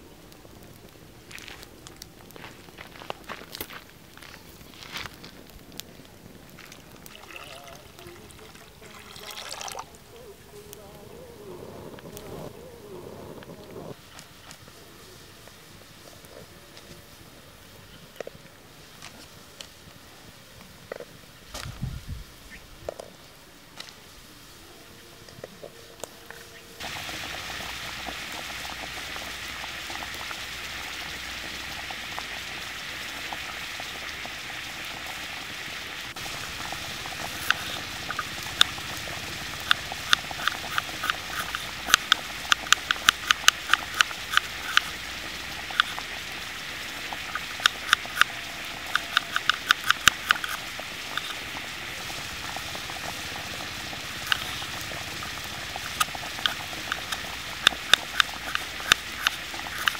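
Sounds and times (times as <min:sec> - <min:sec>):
water boiling in frying pan: 0:00.0 - 0:21.6, 0:25.4 - 0:59.9.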